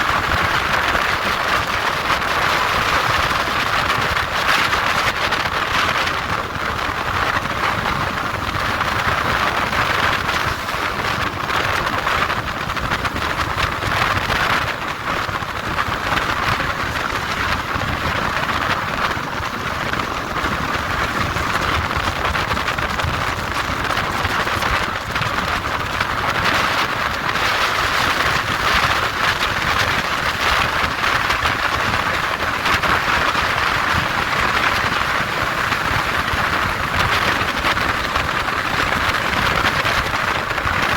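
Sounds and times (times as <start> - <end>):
motorcycle road noise: 0.0 - 40.9
wind noise: 0.0 - 40.9.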